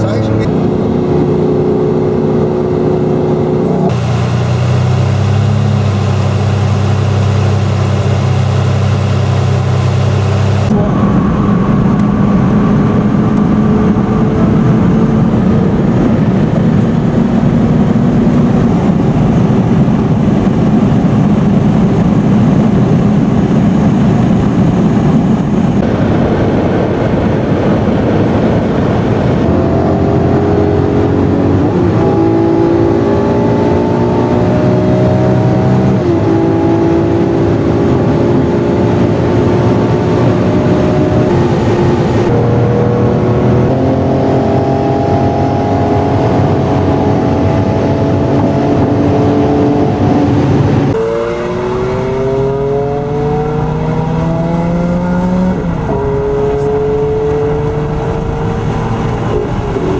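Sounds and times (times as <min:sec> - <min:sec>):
car engine at speed: 0:00.0 - 0:59.9
road and wind noise: 0:00.0 - 0:59.9.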